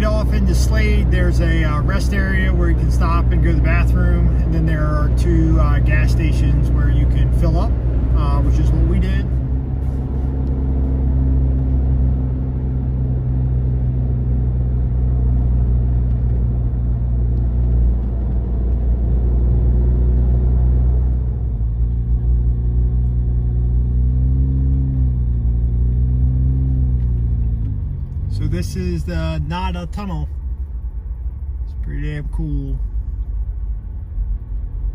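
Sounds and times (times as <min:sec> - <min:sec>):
car engine drone: 0:00.0 - 0:34.9.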